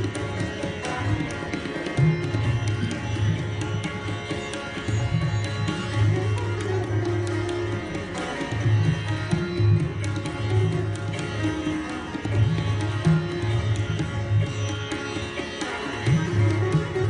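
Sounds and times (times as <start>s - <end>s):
sitar sustained notes: 0.0s - 17.0s
tabla drumming: 0.0s - 17.0s.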